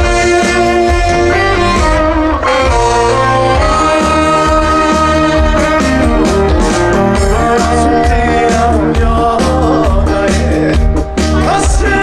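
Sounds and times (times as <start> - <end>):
live trot band music: 0.0 - 12.0.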